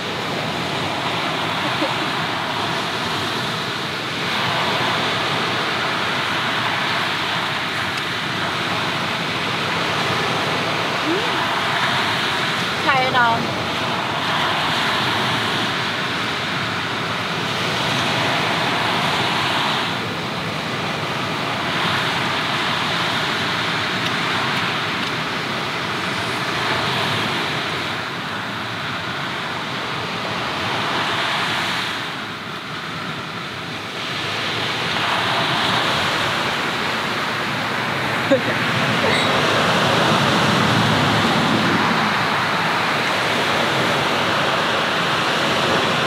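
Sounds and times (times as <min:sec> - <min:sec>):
sea waves washing onto shore: 0:00.0 - 0:46.0.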